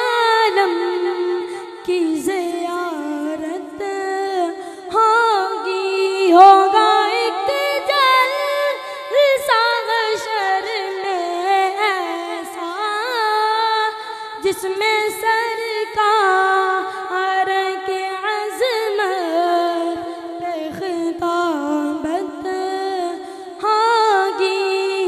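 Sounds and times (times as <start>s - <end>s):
boy singing unaccompanied: 0.0s - 25.0s.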